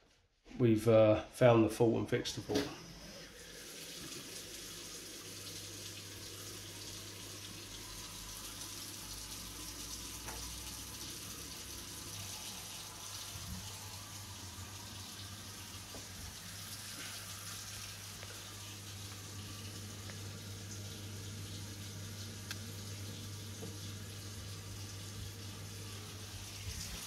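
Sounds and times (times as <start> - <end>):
running water rushing: 2.5 - 27.0.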